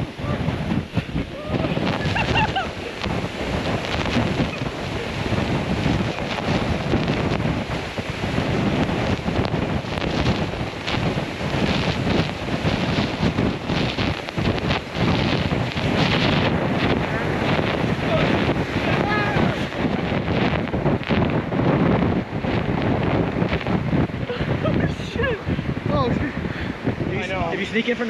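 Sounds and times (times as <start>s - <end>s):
waterfall rushing: 0.0s - 25.6s
wind buffeting microphone: 0.0s - 28.0s.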